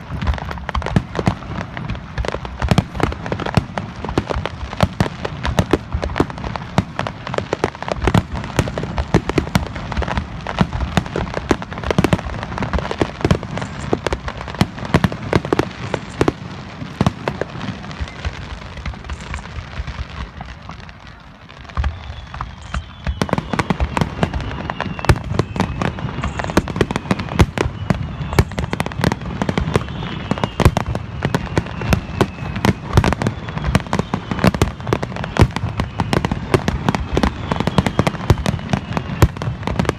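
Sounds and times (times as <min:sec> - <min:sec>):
fireworks crackling and banging: 0:00.0 - 0:39.9
fireworks whistling: 0:00.0 - 0:39.9.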